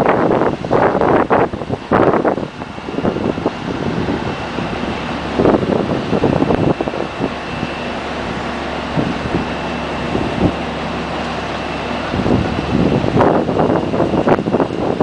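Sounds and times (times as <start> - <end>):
heavy machine engine running: 0.0 - 15.0
wind buffeting microphone: 0.0 - 15.0.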